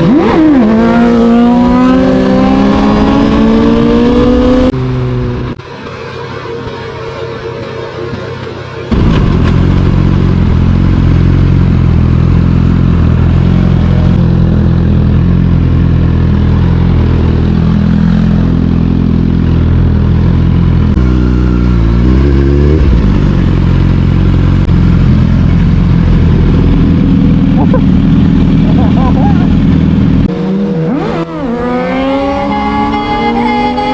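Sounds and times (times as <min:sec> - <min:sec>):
motorcycle engine at speed: 0:00.0 - 0:33.9.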